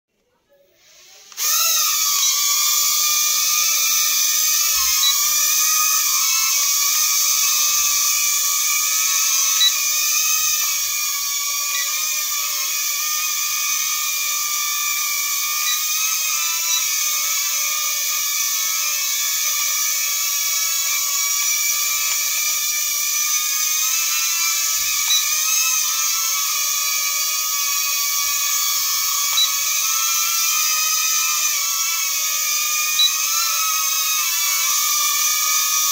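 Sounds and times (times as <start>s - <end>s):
electric propeller motor whine: 0.9s - 35.9s.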